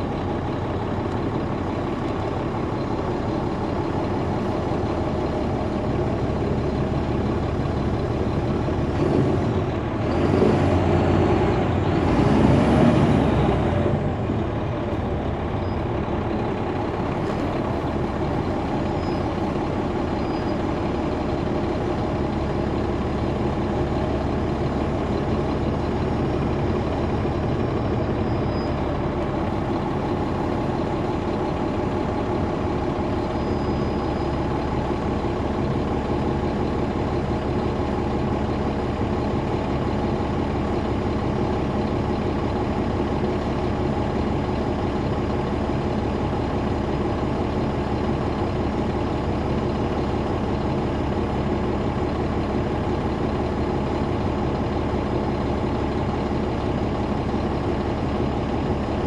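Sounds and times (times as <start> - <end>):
diesel bus engine idling: 0.0 - 59.0.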